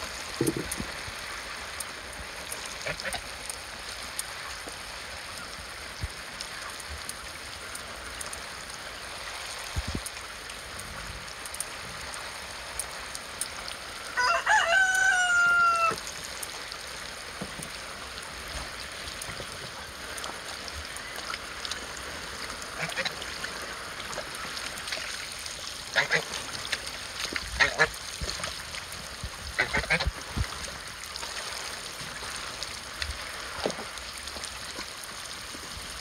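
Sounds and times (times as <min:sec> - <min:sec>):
geese splashing in water: 0:00.0 - 0:10.7, 0:11.3 - 0:36.0.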